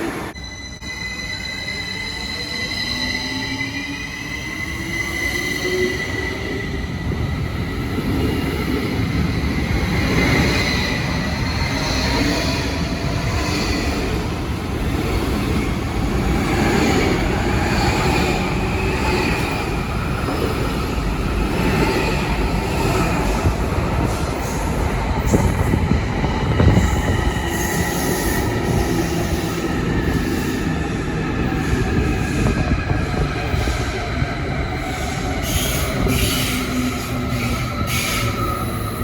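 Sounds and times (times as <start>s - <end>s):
train running on tracks: 0.0s - 39.0s.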